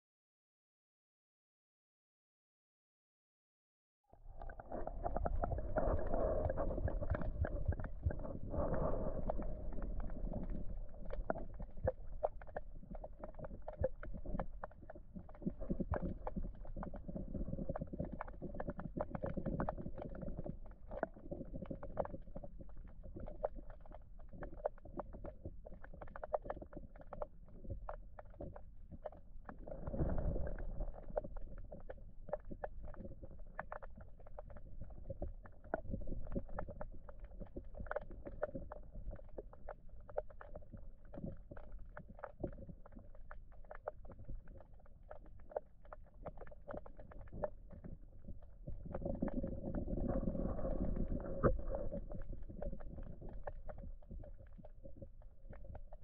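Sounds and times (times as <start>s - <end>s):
muffled underwater river rumble: 4.2s - 56.0s
small clicks and knocks underwater: 4.2s - 56.0s.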